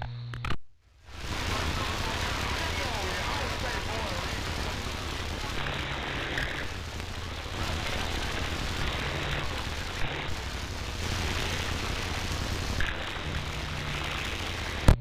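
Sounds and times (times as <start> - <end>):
low hum: 1.0 - 15.0
radio static hiss: 1.0 - 15.0.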